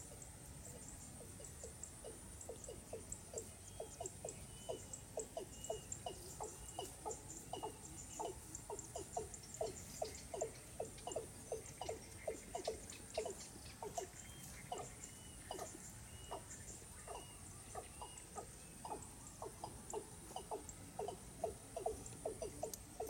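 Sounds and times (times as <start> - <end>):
insects buzzing: 0.0 - 23.0
bird calling low notes: 0.6 - 23.0.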